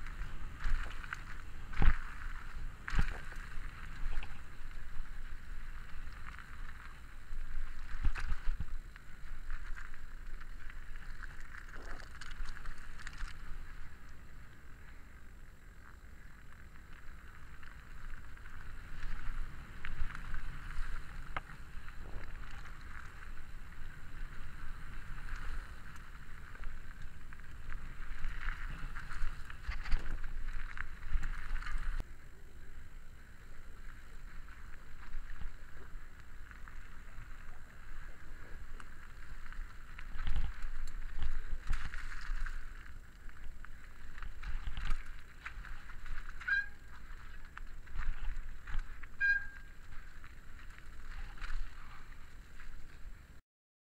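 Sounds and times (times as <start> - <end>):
bike tyres crunching over stones: 0.0 - 53.4.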